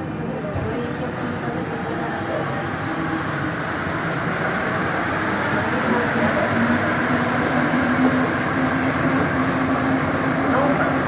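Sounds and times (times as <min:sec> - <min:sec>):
rail running noise: 0:00.0 - 0:11.0
train traction motor whine: 0:00.0 - 0:11.0.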